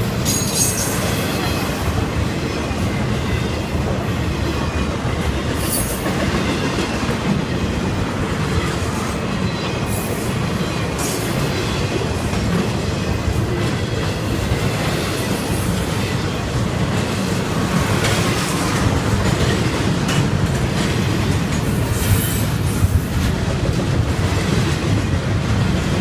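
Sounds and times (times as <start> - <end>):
freight train rolling past: 0.0 - 26.0.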